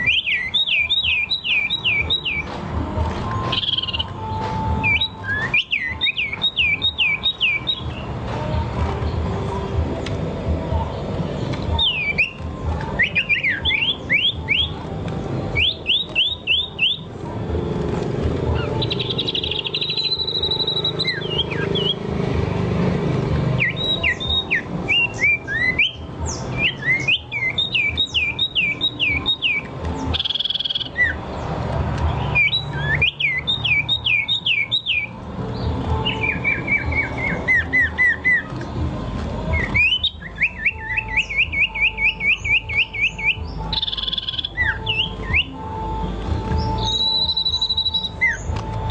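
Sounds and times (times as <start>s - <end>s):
bird trill: 0.0s - 2.6s, 3.2s - 22.3s, 23.0s - 48.9s
songbird singing: 0.0s - 48.9s.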